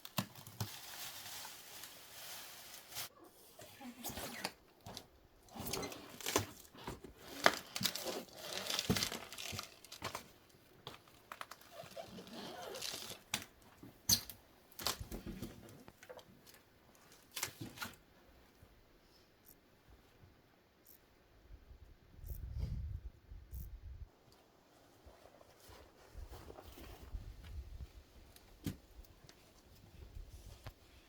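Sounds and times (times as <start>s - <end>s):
crinkling and rustling material: 0.0s - 18.6s, 24.1s - 31.0s.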